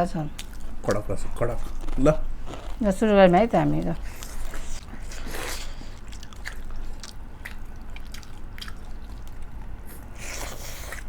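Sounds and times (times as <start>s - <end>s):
chewing and wet squishing: 0.0s - 11.0s.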